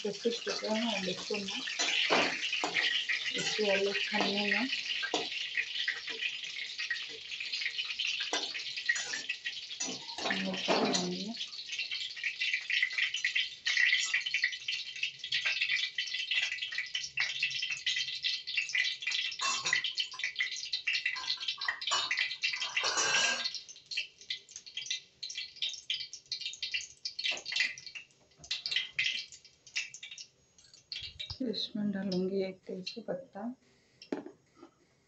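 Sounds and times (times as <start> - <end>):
hot oil sizzling and crackling: 0.0 - 35.0.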